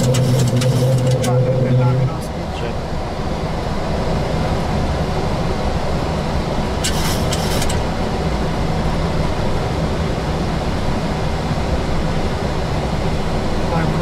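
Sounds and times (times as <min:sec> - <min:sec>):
airflow and engine rumble: 0:00.0 - 0:14.0.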